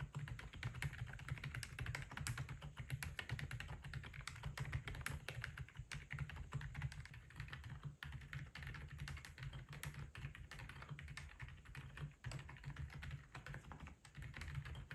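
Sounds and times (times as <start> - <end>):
mechanical keyboard typing: 0.0 - 14.9.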